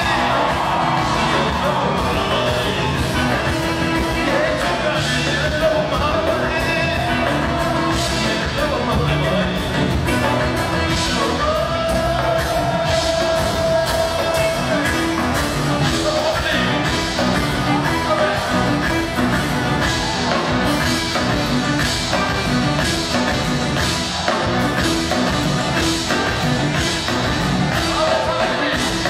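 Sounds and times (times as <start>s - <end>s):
pop band playing: 0.0s - 29.0s.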